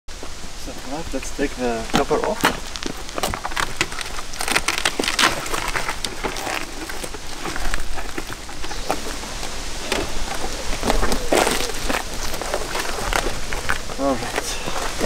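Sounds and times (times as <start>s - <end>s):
bubble foil rustling and crinkling: 1.2s - 15.0s.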